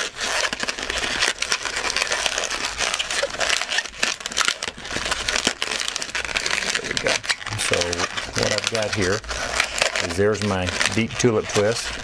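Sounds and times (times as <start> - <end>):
balloon squeaking as twisted: 0.0 - 12.0.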